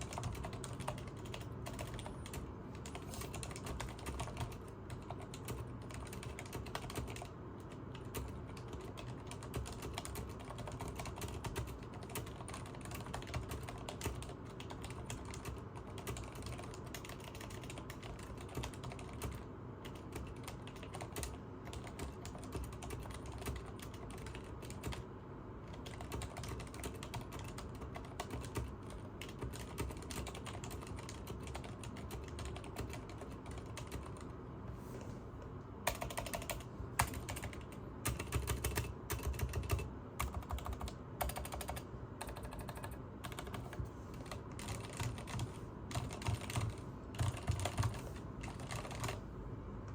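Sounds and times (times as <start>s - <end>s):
fast typing on keyboard: 0.0s - 34.3s, 35.8s - 49.2s.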